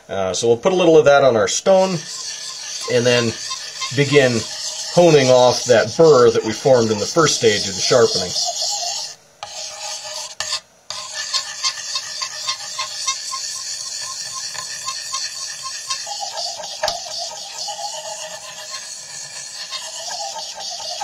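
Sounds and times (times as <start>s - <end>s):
knife scraping on sharpening stone: 2.0s - 21.0s.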